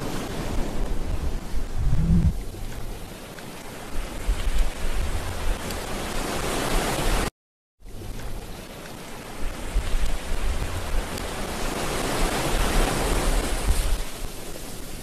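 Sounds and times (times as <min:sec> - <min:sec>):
wind blowing across microphone: 0:00.0 - 0:07.3, 0:07.9 - 0:15.0.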